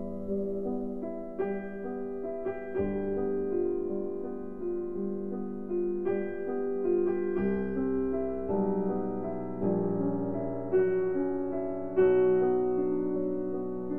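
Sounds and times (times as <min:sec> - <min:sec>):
slow piano chords: 0:00.0 - 0:13.9.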